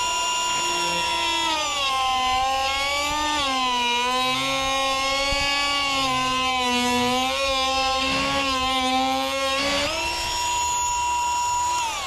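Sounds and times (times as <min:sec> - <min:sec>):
die grinder cutting wood: 0:00.0 - 0:12.0.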